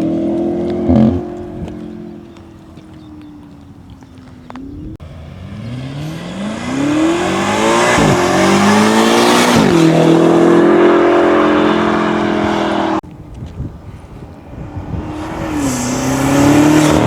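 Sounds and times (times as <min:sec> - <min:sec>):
car engine accelerating hard: 0:00.0 - 0:13.0, 0:14.2 - 0:17.0.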